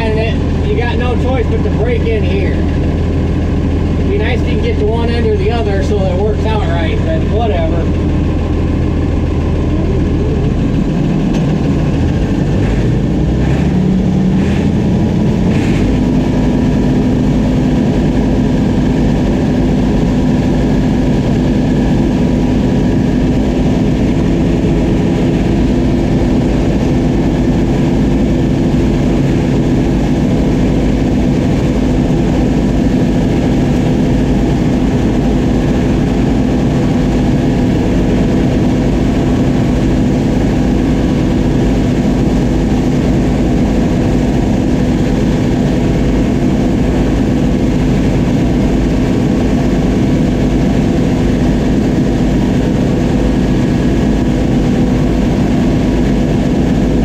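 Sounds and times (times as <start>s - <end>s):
combine engine and machinery: 0.0s - 57.0s.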